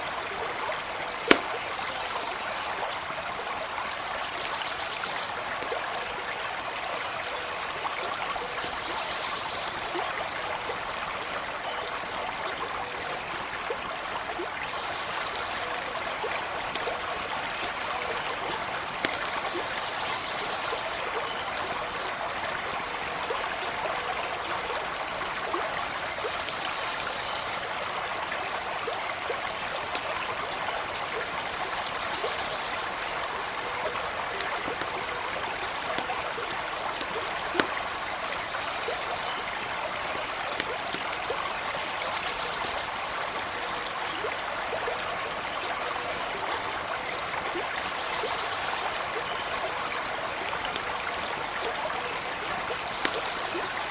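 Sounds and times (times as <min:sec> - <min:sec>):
campfire crackling: 0:00.0 - 0:53.9
stream trickling: 0:00.0 - 0:53.9.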